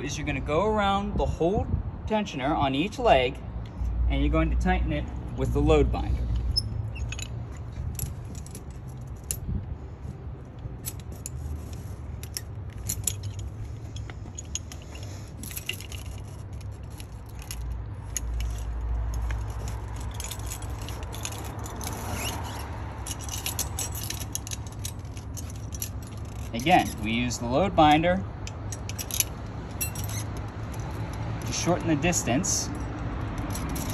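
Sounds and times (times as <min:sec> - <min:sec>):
steel chain links clinking: 0:05.5 - 0:09.7, 0:10.4 - 0:33.9.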